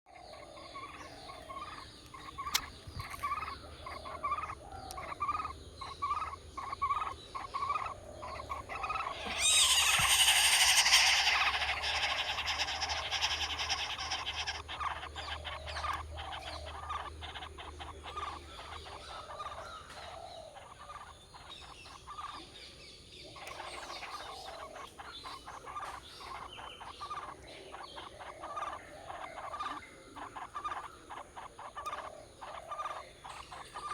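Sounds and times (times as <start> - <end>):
baby birds chirping: 0.1 - 33.9.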